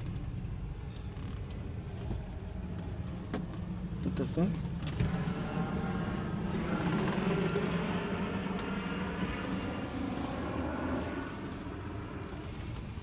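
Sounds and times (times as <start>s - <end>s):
truck engine running inside cab: 0.0s - 13.0s.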